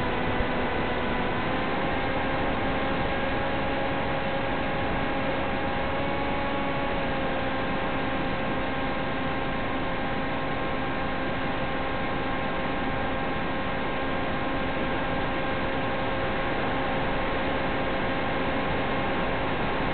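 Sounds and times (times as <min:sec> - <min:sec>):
buzzing hum: 0:00.0 - 0:19.9.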